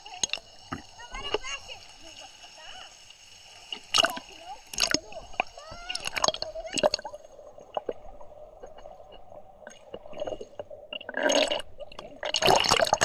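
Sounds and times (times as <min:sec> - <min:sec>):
water splashing and dripping: 0:00.0 - 0:13.0.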